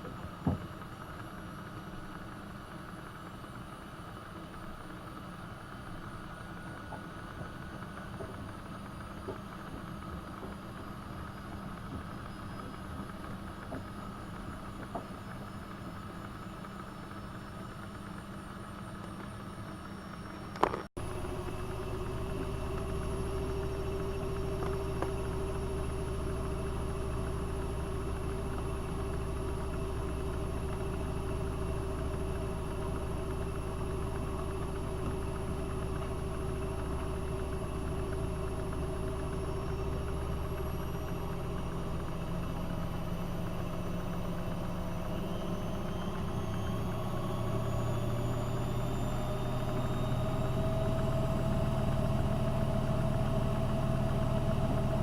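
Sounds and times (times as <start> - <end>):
washing machine drum motor whine: 0.0 - 55.0.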